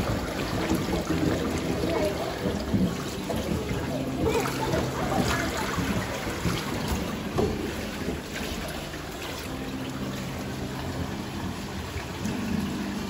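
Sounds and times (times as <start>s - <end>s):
pool water lapping: 0.0s - 13.0s.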